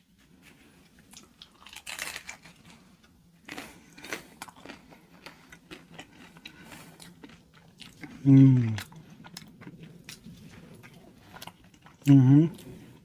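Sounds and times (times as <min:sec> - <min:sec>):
taco shell crunching: 0:01.1 - 0:12.1
chewing crunches: 0:01.1 - 0:12.9.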